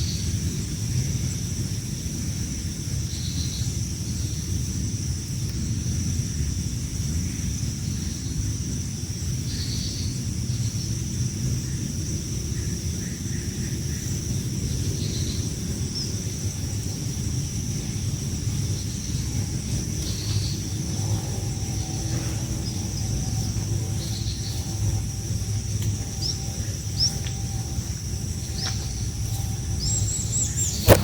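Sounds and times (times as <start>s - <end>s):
high-pitched hiss: 0.0s - 31.0s
steady low rumble: 0.0s - 31.0s.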